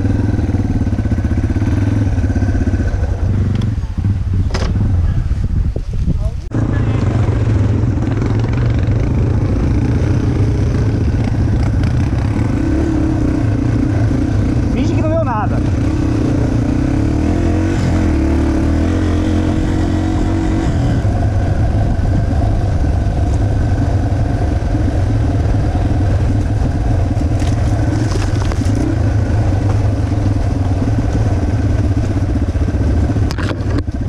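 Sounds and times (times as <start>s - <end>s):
motorcycle engine running steadily: 0.0s - 34.0s.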